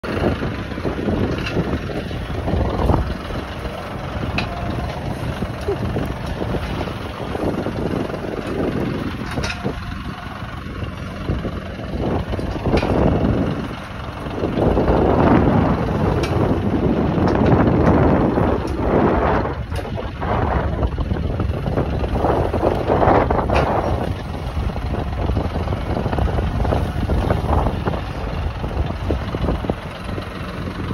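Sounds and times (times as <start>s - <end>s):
tractor engine idling: 0.0s - 30.9s
wind buffeting microphone: 0.0s - 30.9s.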